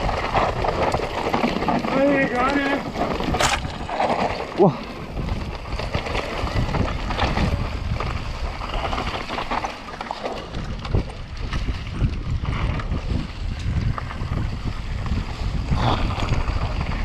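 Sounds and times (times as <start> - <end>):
wind buffeting microphone: 0.0 - 9.6, 10.4 - 17.0
bike rattling: 0.0 - 17.0
tyres on rocky trail: 0.0 - 17.0.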